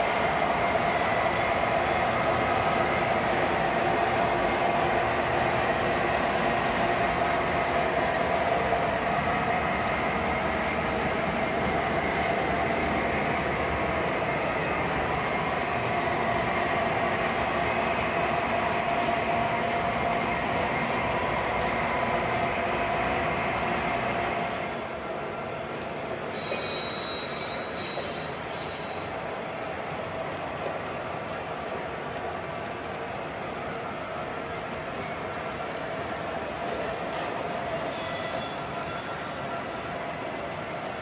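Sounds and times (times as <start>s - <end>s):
model train wheels rumbling on track: 0.0s - 41.0s.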